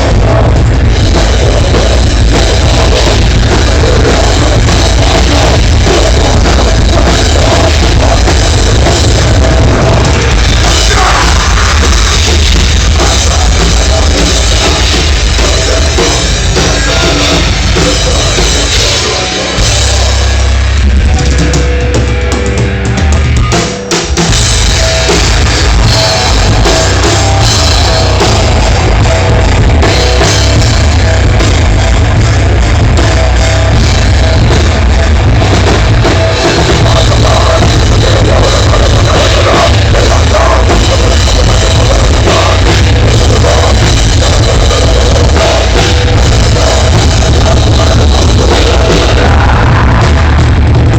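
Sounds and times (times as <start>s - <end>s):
heavy metal band music: 0.0s - 50.9s.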